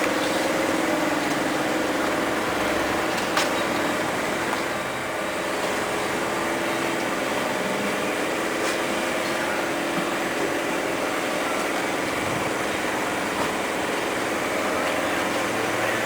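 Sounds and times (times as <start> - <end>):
machine hum with steady tones: 0.0 - 16.0.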